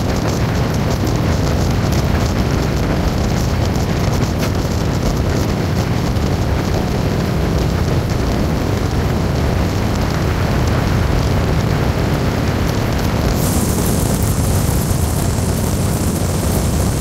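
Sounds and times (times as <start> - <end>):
low road rumble: 0.0 - 17.0
tyres hissing on wet road: 0.0 - 17.0
wind noise: 0.0 - 17.0.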